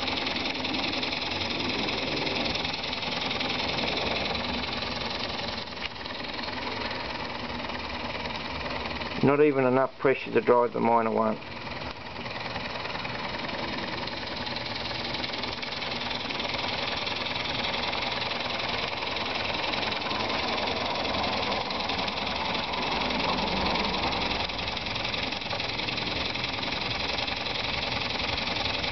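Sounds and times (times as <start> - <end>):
model steam engine running: 0.0 - 28.9.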